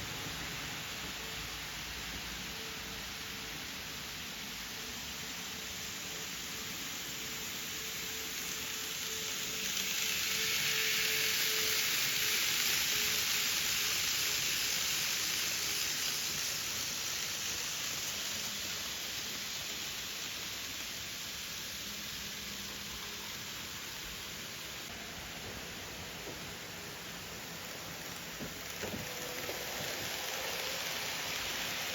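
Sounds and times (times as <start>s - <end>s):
faint motor whine: 0.0s - 31.9s
model train rolling on track: 0.0s - 31.9s.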